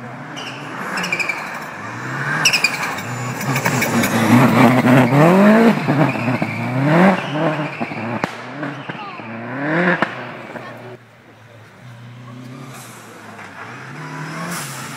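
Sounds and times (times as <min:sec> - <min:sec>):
engine crackles: 0:00.0 - 0:14.9
rally car engine passing: 0:00.0 - 0:14.9.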